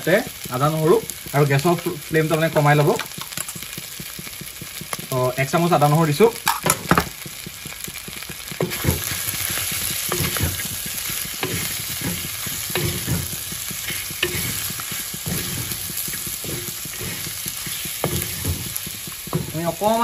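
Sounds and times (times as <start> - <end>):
food sizzling in hot oil: 0.0 - 20.0
spatula scraping and knocking pan: 0.0 - 20.0.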